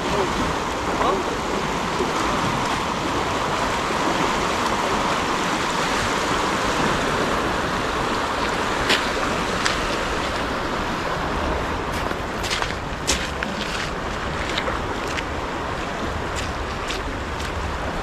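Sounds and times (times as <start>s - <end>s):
choppy water: 0.0s - 18.0s
wind: 0.0s - 18.0s.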